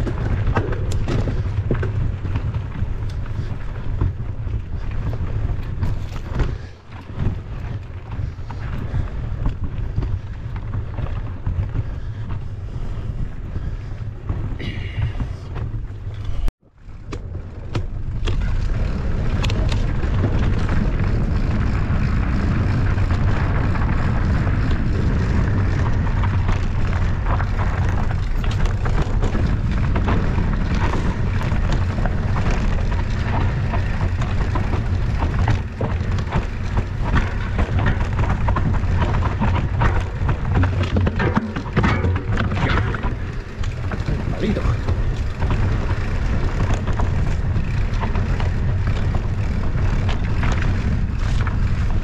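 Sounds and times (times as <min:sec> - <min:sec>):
bike rattling knocks and clicks: 0:00.0 - 0:52.0
wind rumble on microphone: 0:00.0 - 0:52.0.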